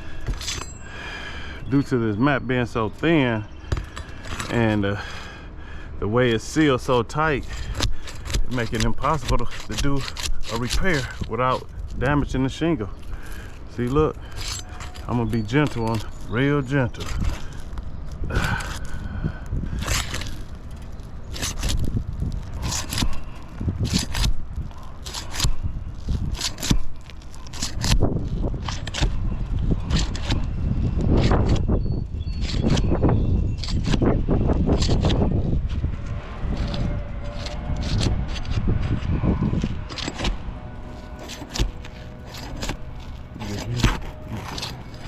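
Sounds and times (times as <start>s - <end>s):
shingle mat tearing: 0.0s - 45.0s
shingle scraping and crackling: 0.0s - 45.0s.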